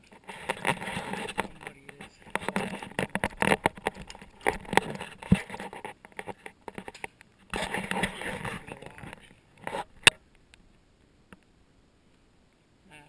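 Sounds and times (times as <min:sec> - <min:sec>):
clicks and scrapes near camera: 0:00.0 - 0:10.7.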